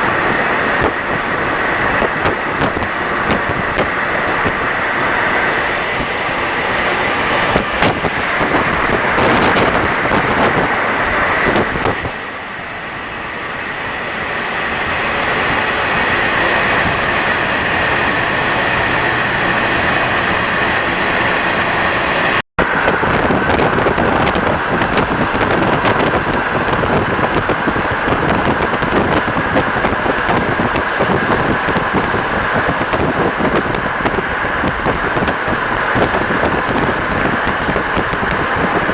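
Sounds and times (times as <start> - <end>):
metro train rumbling with whine: 0.0 - 38.9.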